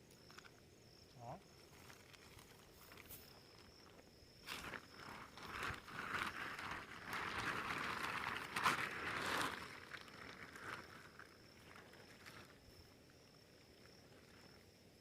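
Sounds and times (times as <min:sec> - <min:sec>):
high insect trill: 0:00.0 - 0:15.0
rustling crackling noise: 0:01.4 - 0:14.6.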